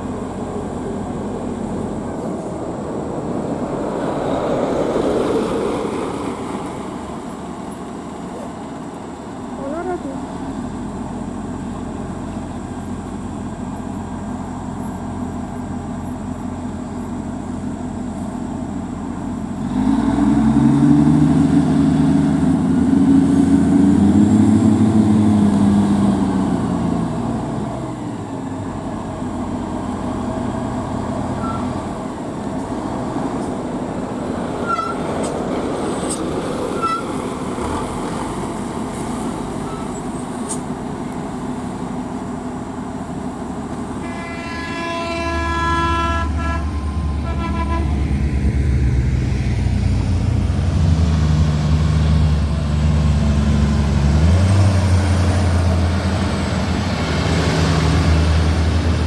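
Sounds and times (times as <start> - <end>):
diesel truck engine running: 0.0 - 59.0
traffic hum: 0.0 - 59.0.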